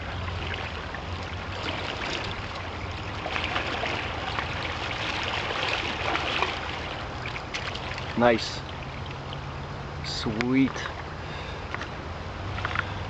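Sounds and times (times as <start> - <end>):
river water running over rocks: 0.0 - 13.0.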